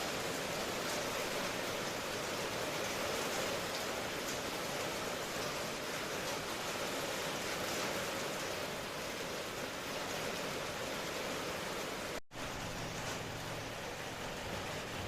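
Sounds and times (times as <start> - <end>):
steady rainfall: 0.0 - 15.0.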